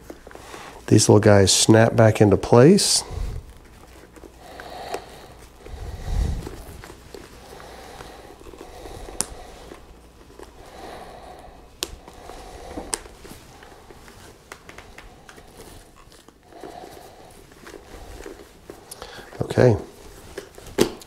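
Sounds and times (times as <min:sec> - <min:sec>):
fabric and foam rustling: 0:00.0 - 0:21.0.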